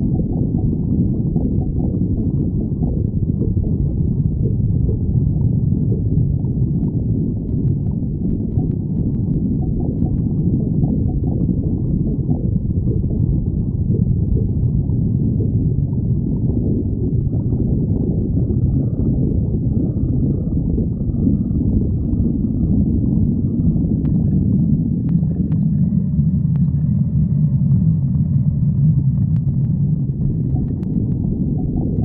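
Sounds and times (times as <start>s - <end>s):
stomach growling: 0.0s - 32.0s.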